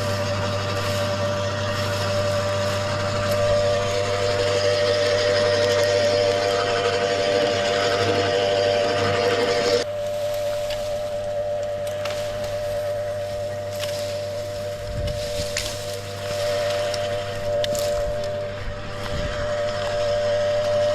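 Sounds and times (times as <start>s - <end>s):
wood chipper running: 0.0s - 20.9s.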